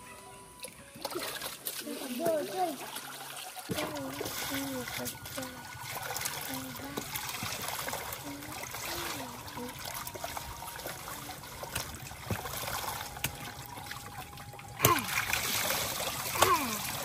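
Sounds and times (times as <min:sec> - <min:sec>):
water trickling: 0:00.5 - 0:17.0.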